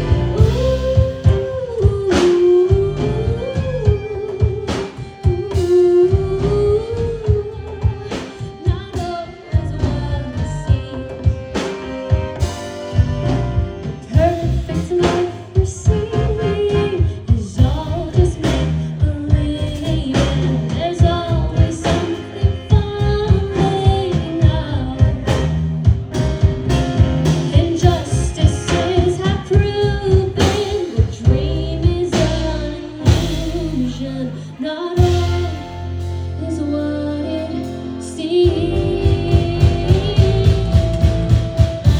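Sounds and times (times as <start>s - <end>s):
live band playing: 0.0s - 41.9s
woman singing lead: 0.0s - 41.9s.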